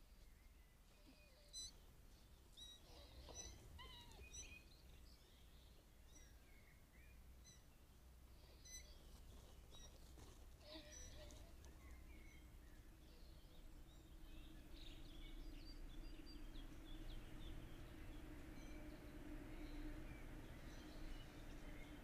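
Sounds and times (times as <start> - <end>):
low steady hum: 0.0 - 22.0
songbirds chirping: 0.0 - 22.0.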